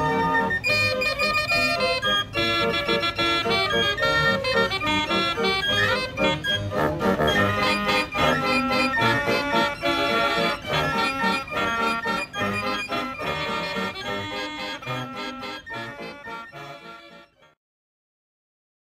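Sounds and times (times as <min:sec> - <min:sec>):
fair organ playing a tune: 0:00.0 - 0:17.6.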